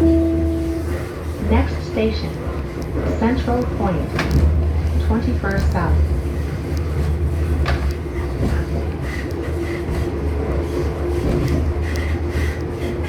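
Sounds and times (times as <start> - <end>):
train rumbling inside car: 0.0 - 13.0.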